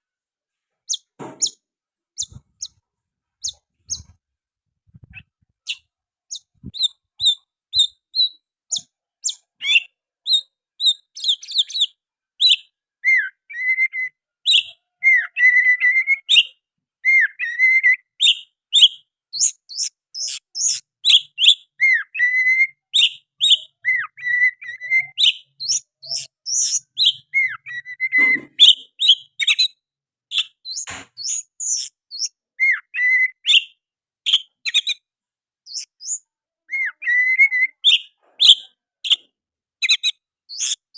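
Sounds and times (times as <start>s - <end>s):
bird singing whistled song: 5.7s - 35.0s, 35.7s - 40.9s.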